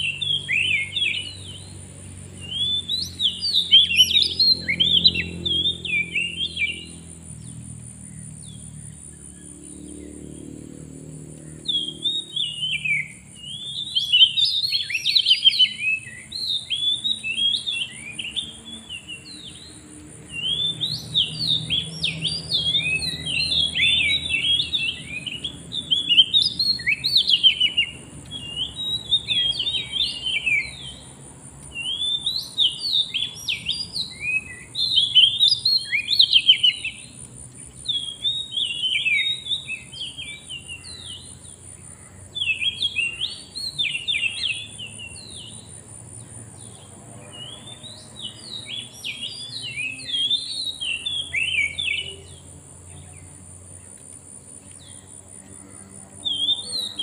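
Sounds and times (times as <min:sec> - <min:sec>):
bird whistling and chirping song: 0:00.0 - 0:10.1, 0:11.4 - 0:31.0, 0:31.7 - 0:37.2, 0:37.8 - 0:41.3, 0:42.4 - 0:45.8, 0:47.3 - 0:52.4, 0:56.2 - 0:57.0.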